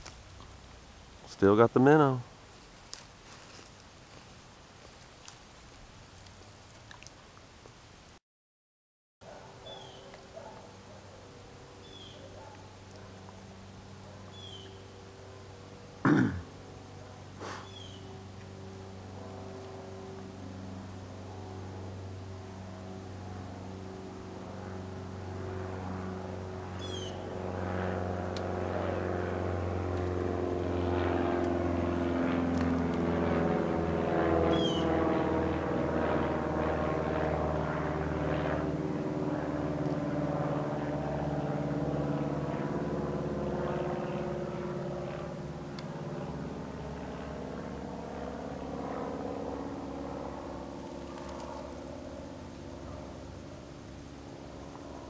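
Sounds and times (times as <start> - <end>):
engine passing by: 9.3 - 55.0.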